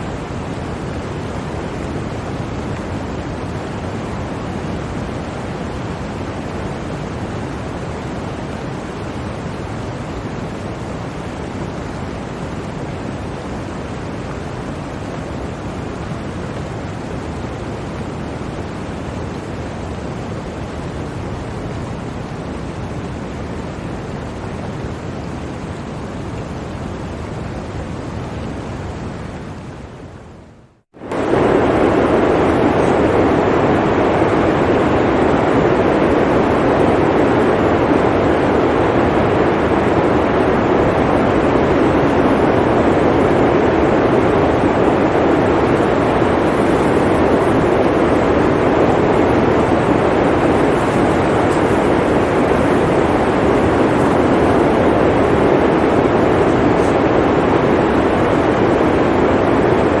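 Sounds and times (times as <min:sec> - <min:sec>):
blizzard wind rushing: 0:00.0 - 1:00.0.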